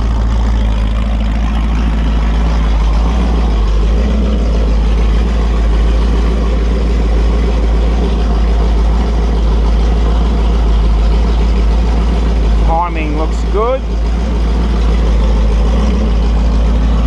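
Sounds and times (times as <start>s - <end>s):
engine running through open headers: 0.0s - 17.0s.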